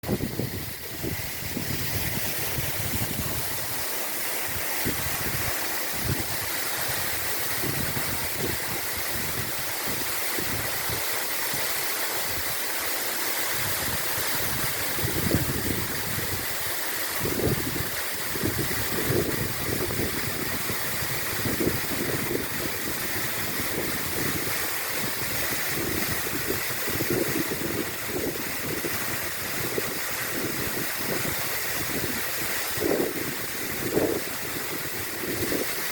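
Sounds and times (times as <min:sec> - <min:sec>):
wind buffeting microphone: 0:00.0 - 0:03.8, 0:04.4 - 0:11.1, 0:13.6 - 0:35.9
waterfall rushing: 0:00.0 - 0:35.9.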